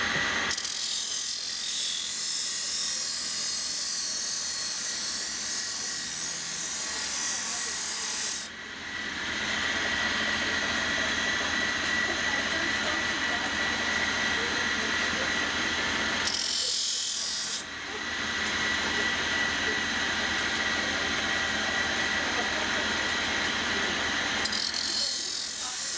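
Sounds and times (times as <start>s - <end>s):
grinder motor whine: 0.0s - 25.9s.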